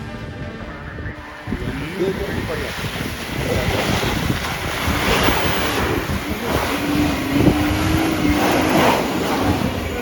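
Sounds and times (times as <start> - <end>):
vehicle engine running: 0.0 - 10.0
wind buffeting microphone: 0.0 - 10.0.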